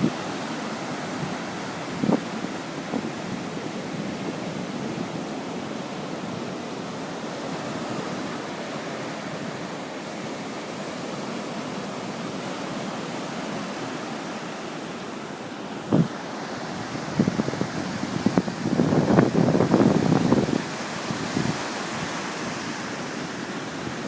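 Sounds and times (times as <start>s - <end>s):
surf washing in: 0.0s - 24.0s.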